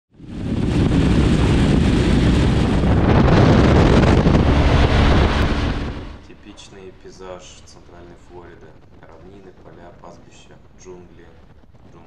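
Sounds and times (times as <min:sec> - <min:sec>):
wind rush buffeting microphone: 0:00.1 - 0:12.0.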